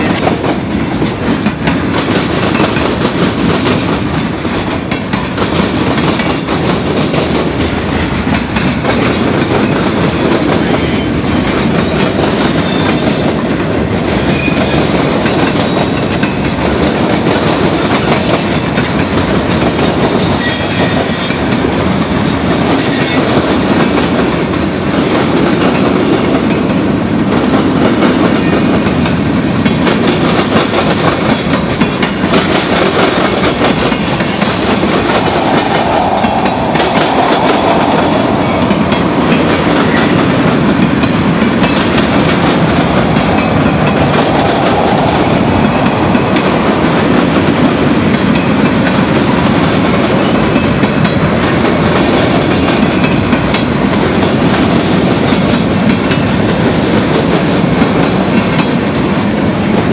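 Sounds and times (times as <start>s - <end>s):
train wheels rumbling on rail: 0.0s - 59.9s
wheels clicking over rail joints: 0.0s - 59.9s.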